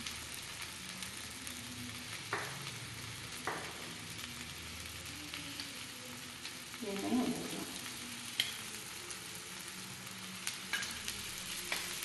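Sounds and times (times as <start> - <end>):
pancake sizzling in oil: 0.0 - 12.0.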